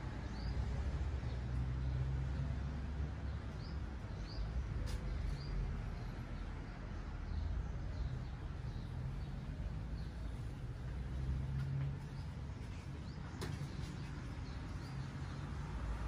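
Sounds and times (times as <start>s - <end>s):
small birds chirping: 0.2s - 16.0s.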